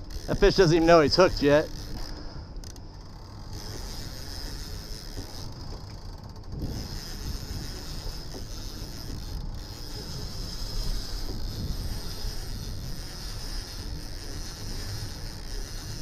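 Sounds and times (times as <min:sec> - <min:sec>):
fishing reel whirring and clicking: 0:00.0 - 0:16.0
outboard motor running: 0:00.0 - 0:16.0.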